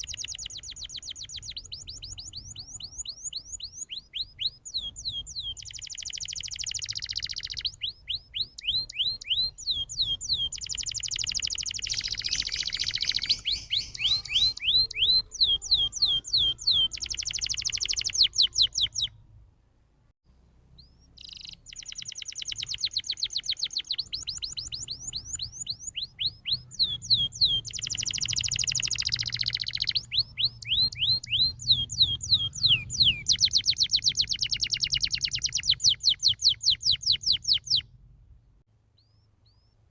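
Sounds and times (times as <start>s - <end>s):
canary singing: 0.0s - 19.2s, 20.7s - 37.9s, 39.0s - 39.9s.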